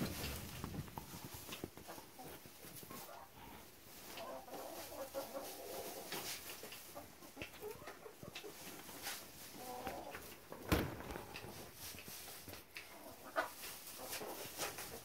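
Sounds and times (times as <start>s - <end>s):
hens clucking softly: 0.0s - 15.0s.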